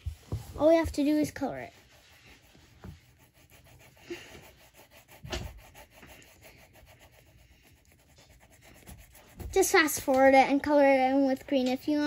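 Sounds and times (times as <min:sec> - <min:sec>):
crayon scribbling on paper: 0:00.0 - 0:10.7.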